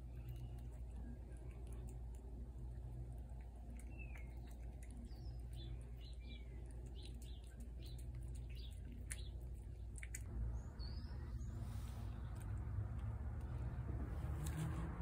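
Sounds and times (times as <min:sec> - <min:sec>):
cat chewing food: 0:00.0 - 0:10.5, 0:11.4 - 0:15.0
small birds chirping: 0:00.0 - 0:13.8.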